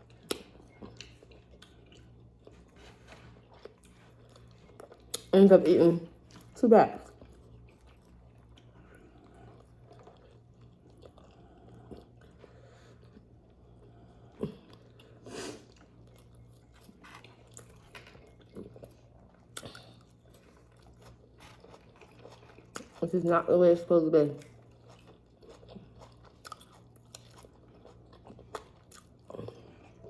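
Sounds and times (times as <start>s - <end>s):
person chewing food: 0.0s - 5.3s, 6.2s - 23.4s, 24.4s - 30.0s
faint steady hum: 0.0s - 30.0s.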